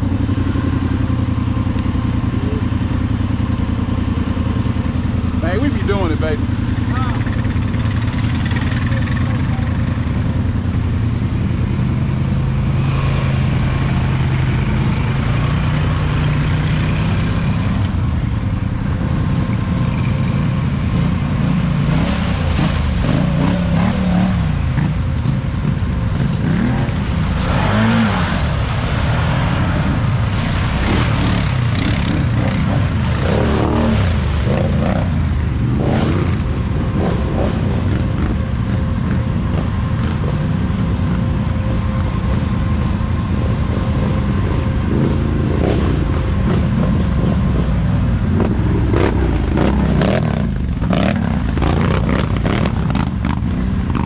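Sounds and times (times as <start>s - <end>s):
quad engines running: 0.0s - 54.0s.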